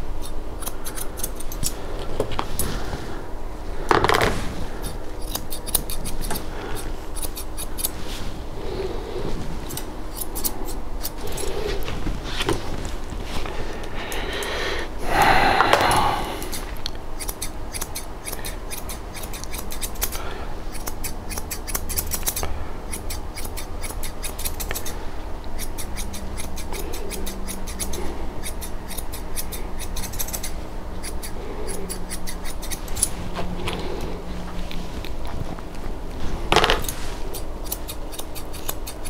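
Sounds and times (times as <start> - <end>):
grooming shears snipping: 0.2 - 2.8, 4.8 - 8.0, 9.6 - 12.9, 15.7 - 35.8, 36.6 - 39.0.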